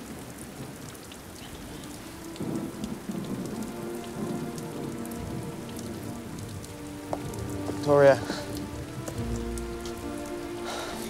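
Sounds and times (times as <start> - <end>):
raindrop ticks: 0.0 - 11.0
steady rain falling: 0.0 - 11.0.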